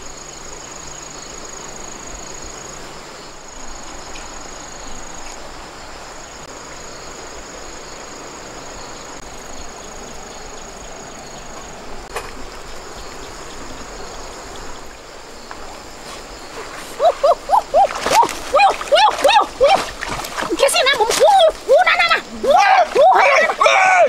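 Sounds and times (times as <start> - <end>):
background hiss: 0.0 - 24.0
insects chirring: 0.0 - 24.0.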